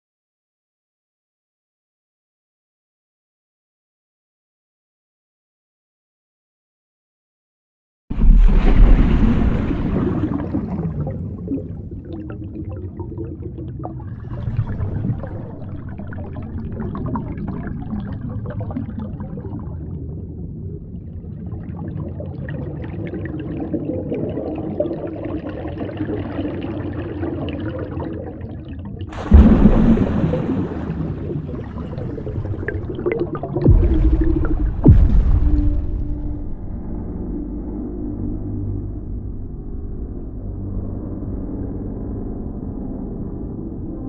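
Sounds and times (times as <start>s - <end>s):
muffled underwater water noise: 8.1s - 44.0s.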